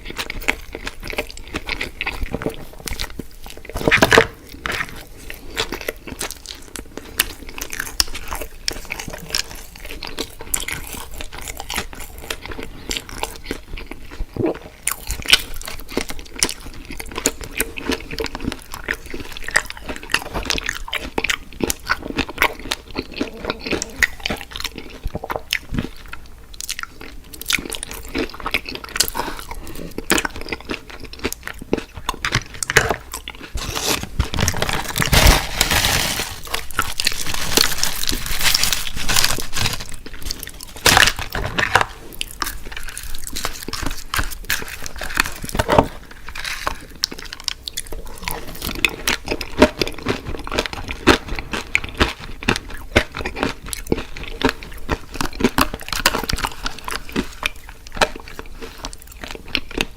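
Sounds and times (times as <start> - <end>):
crunchy bites and wet chewing: 0.0 - 59.9.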